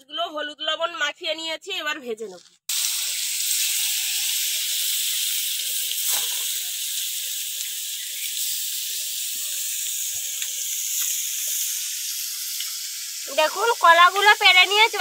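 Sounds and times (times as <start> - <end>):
fish sizzling in hot oil: 2.7 - 15.0.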